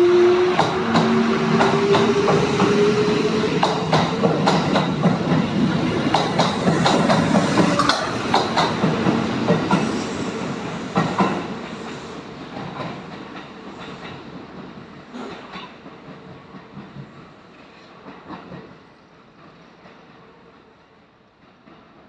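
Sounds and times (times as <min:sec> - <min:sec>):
train wheels clacking over rail joints: 0:00.4 - 0:18.8.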